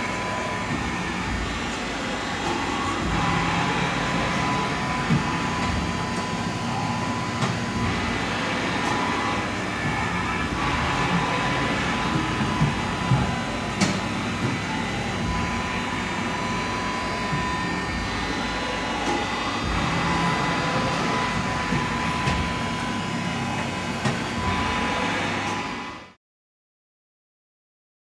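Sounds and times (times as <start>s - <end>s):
machine hum with high whine: 0.0s - 26.2s.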